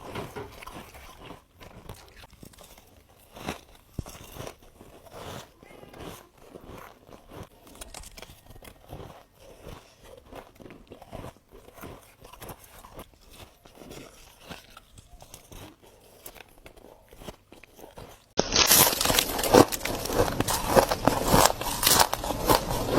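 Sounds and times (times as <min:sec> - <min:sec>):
ice crunching and chewing: 0:00.0 - 0:22.9.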